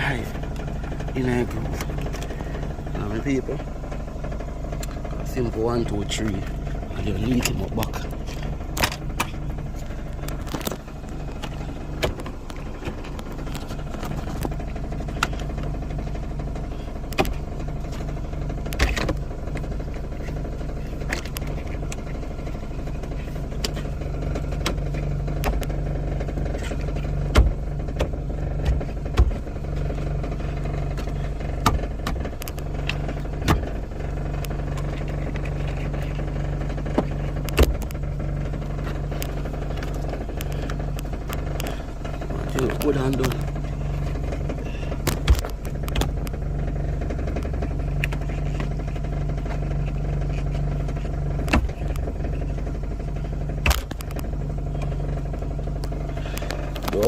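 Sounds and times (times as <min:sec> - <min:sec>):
low vehicle hum: 0:00.0 - 0:57.0.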